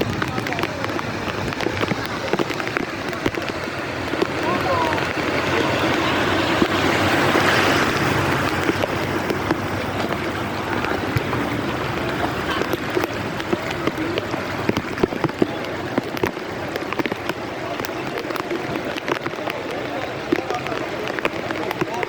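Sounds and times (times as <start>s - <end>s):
heavy rain falling: 0.0s - 22.0s
water drops splashing: 0.0s - 22.0s.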